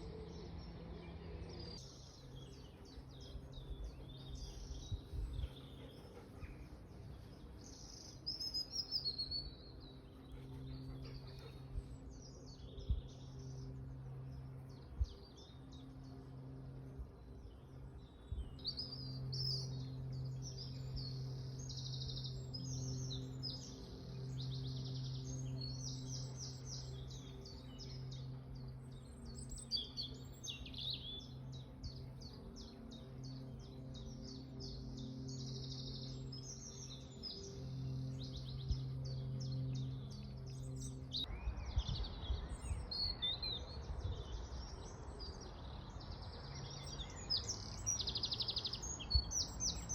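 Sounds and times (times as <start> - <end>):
steady low hum: 0.0 - 42.9
songbirds chirping and trilling: 0.0 - 49.9.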